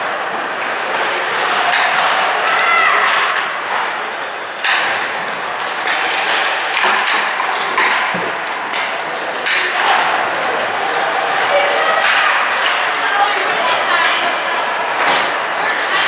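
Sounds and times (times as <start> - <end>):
steady rink background noise: 0.0 - 16.0
hockey sticks and puck knocking: 0.3 - 10.7, 11.4 - 16.0.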